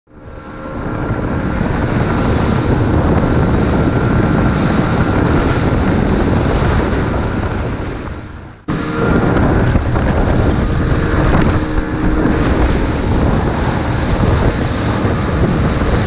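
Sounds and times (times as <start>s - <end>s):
boat engine drone: 0.1s - 16.0s
wind buffeting microphone: 0.1s - 16.0s
rushing water: 0.2s - 16.0s.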